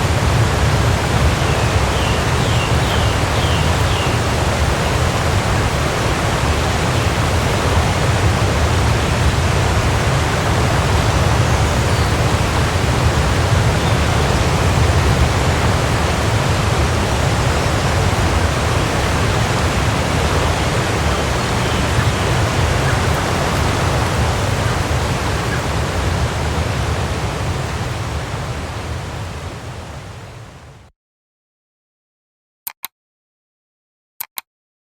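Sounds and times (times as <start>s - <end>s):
waterfall rushing with low rumble: 0.0s - 30.9s.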